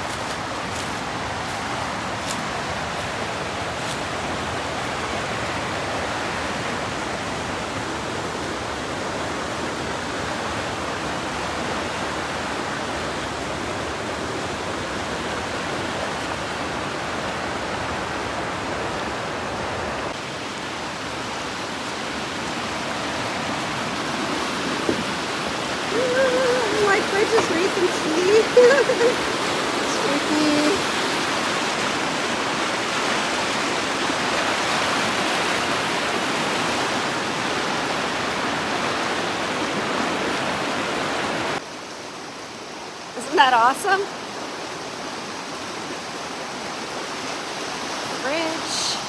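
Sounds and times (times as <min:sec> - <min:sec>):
water rushing over rocks: 0:00.0 - 0:49.0.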